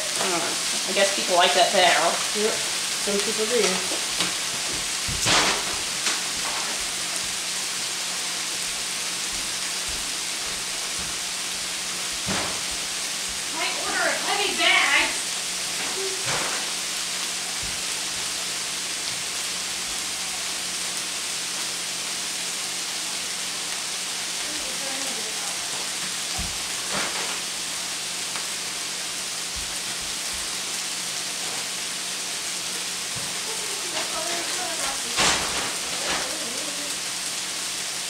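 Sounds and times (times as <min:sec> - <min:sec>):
vegetables sizzling in a skillet: 0:00.0 - 0:38.0.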